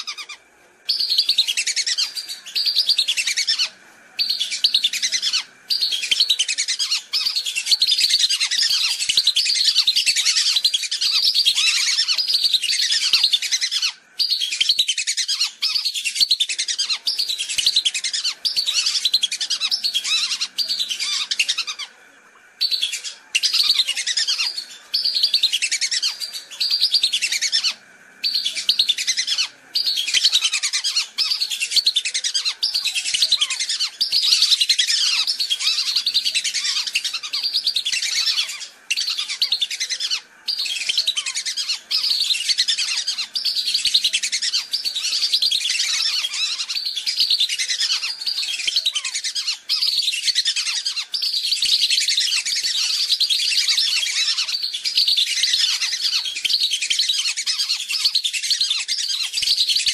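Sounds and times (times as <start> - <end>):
flock of ducks whistling: 0.0 - 59.9.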